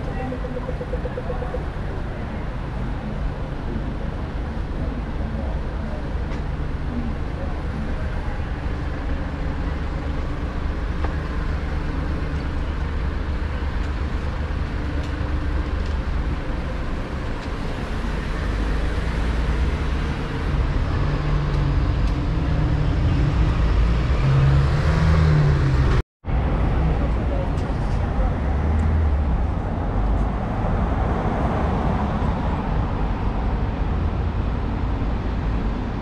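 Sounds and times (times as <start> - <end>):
heavy vehicle engine: 0.0 - 36.0
passing cars rumble: 0.0 - 36.0.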